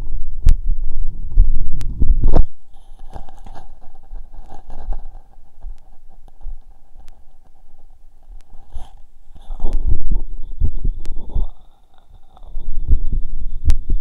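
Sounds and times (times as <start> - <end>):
faint steady whine: 0.0 - 14.0
muffled body sounds: 1.2 - 14.0.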